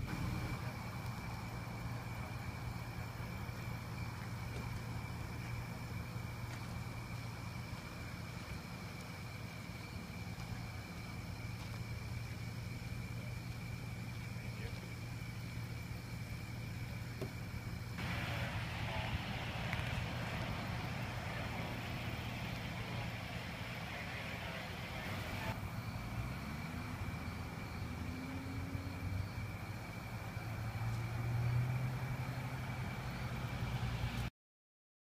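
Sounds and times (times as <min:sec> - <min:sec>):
vehicle engines humming: 0:00.0 - 0:34.3.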